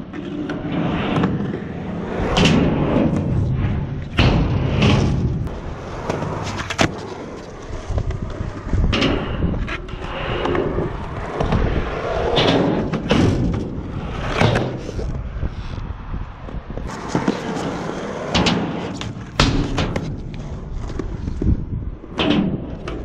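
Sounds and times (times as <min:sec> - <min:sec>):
skateboard wheels rolling on concrete: 0:00.0 - 0:23.0
skateboard tail popping and landing: 0:00.2 - 0:15.1, 0:16.8 - 0:21.5.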